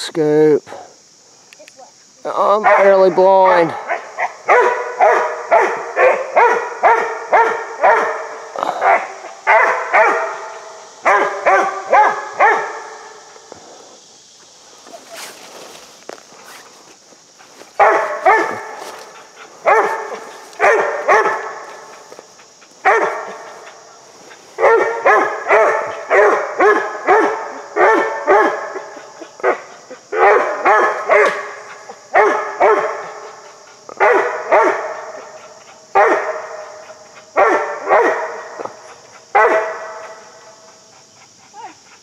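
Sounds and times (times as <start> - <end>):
dog barking: 2.6 - 13.1, 17.7 - 41.8.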